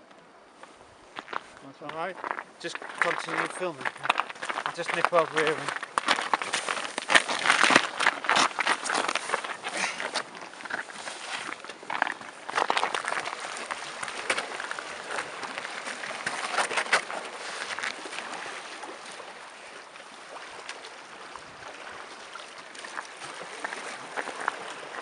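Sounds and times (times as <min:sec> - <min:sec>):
water lapping against rocks: 0:00.7 - 0:25.0.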